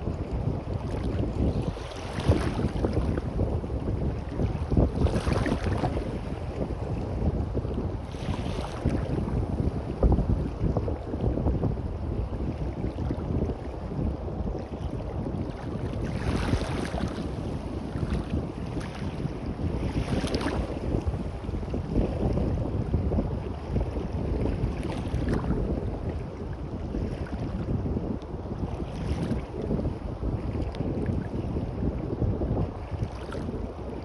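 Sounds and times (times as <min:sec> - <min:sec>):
waves washing on a beach: 0:00.0 - 0:34.0
wind buffeting the microphone: 0:00.0 - 0:34.0.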